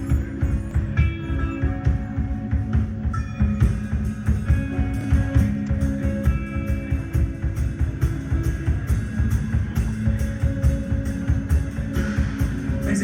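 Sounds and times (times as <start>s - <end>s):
bass notes: 0.0s - 13.0s
distorted guitar: 0.0s - 13.0s
fast drum beat: 1.9s - 13.0s.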